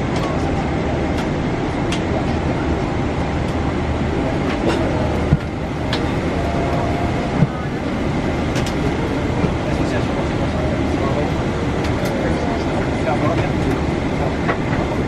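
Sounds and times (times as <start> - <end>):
aircraft cabin air system rumble: 0.0 - 15.0.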